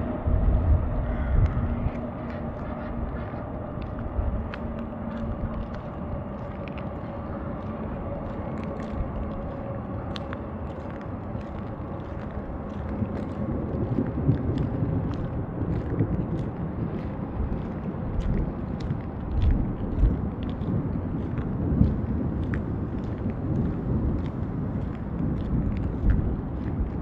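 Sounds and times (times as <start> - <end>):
distant city traffic rumble: 0.0 - 27.0
faint steady drone: 0.0 - 27.0
light ticks: 1.3 - 27.0.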